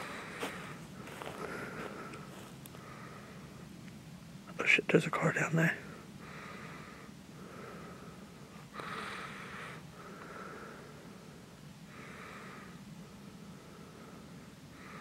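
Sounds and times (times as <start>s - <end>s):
person breathing: 0.0s - 3.6s, 5.9s - 15.0s.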